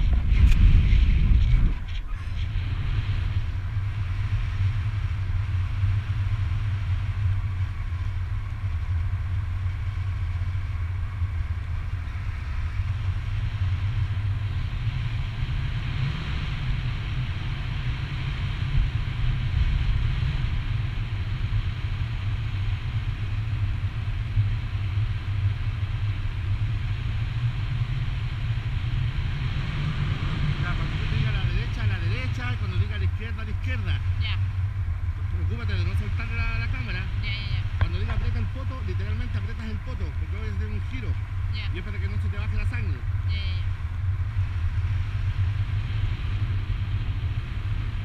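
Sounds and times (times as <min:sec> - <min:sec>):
wind rushing over microphone: 0:00.0 - 0:48.0.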